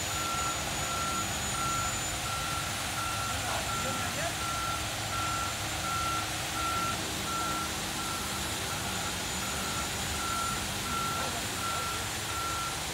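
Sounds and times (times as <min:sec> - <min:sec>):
truck backup alarm beeping: 0:00.0 - 0:12.9
truck engine running: 0:00.0 - 0:12.9.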